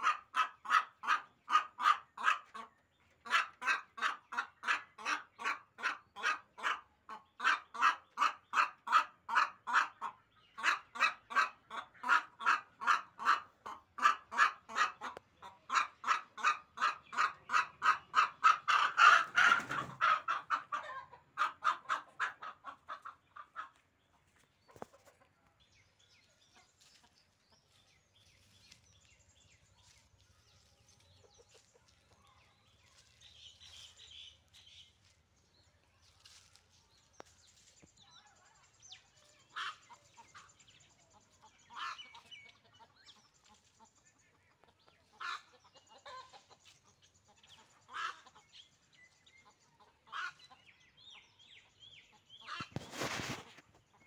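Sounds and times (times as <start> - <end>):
hen clucking and squawking: 0.0 - 38.1, 39.2 - 48.6, 49.4 - 50.8, 52.1 - 54.0.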